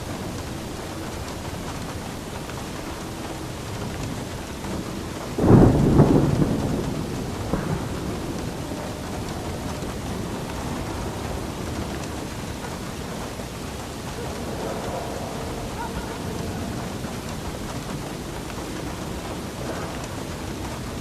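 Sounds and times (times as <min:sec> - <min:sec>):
loud thunder clap: 0:00.0 - 0:21.0
steady rain: 0:00.0 - 0:21.0.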